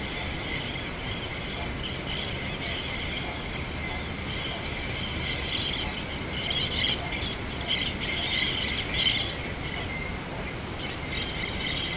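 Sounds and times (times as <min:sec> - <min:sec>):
birds chirping and chattering: 0:00.0 - 0:11.9
steady hiss: 0:00.0 - 0:11.9.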